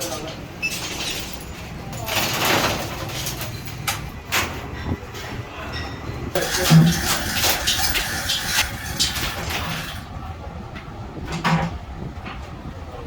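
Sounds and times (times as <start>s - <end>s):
metal workshop knocks and clatter: 0.0s - 10.0s, 10.8s - 12.6s.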